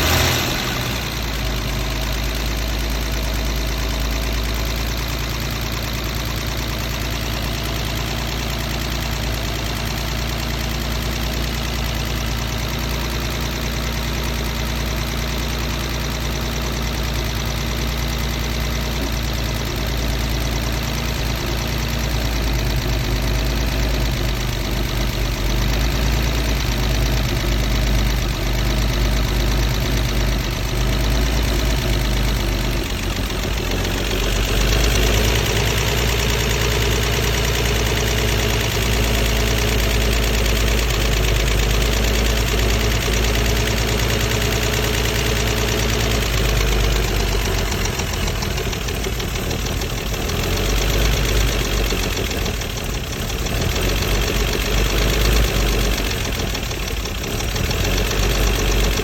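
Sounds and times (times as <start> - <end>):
car engine idling rough: 0.0 - 59.0.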